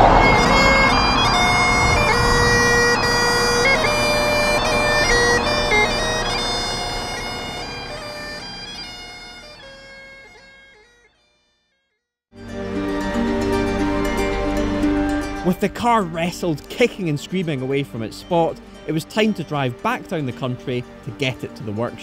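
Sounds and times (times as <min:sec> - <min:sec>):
bagpipes playing a tune: 0:00.0 - 0:11.4, 0:12.4 - 0:22.0.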